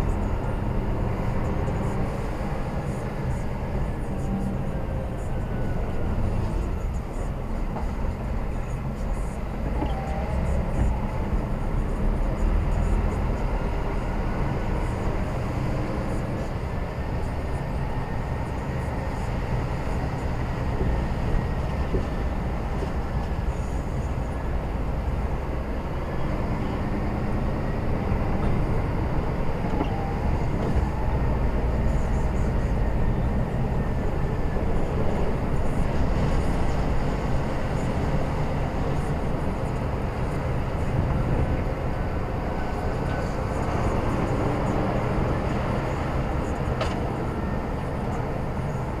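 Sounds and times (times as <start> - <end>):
diesel engine rumbling: 0.0 - 49.0
road noise: 0.0 - 49.0.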